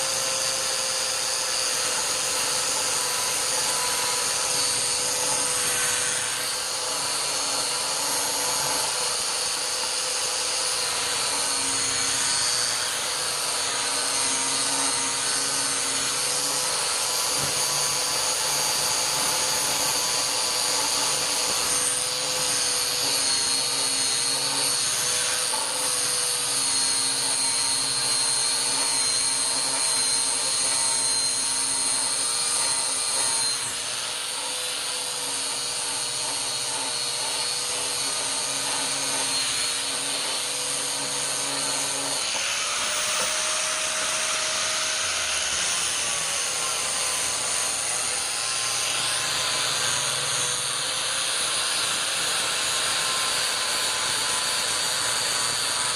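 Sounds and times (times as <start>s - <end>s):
electric power tool motor humming: 0.0s - 55.9s.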